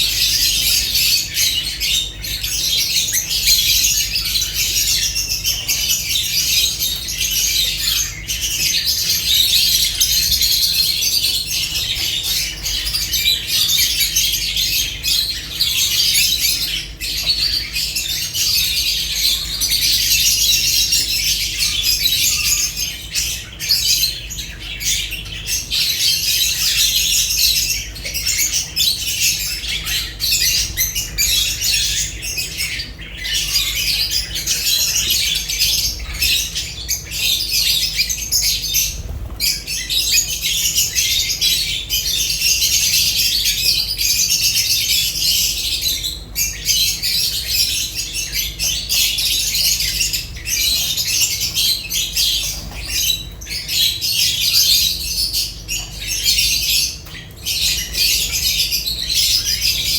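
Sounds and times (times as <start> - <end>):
lovebirds chattering: 0.0 - 59.9.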